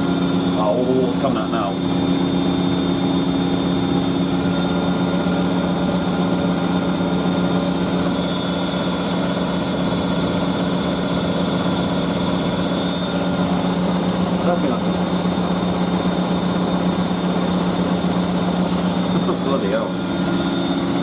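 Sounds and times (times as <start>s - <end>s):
washing machine spinning: 0.0s - 21.0s.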